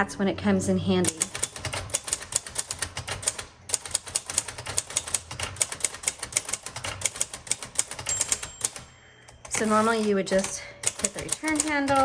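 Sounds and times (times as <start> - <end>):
typewriter keystrokes: 1.0 - 12.0.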